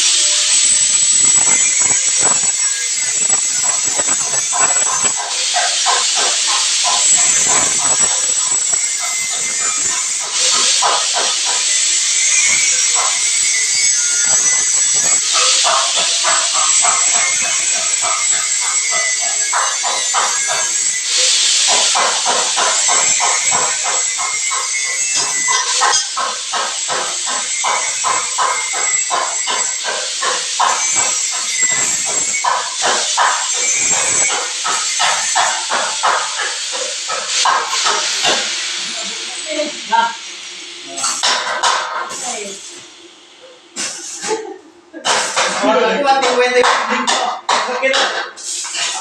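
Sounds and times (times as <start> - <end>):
power sprayer water jet hissing: 0.0 - 43.1, 43.7 - 45.6, 48.4 - 49.0.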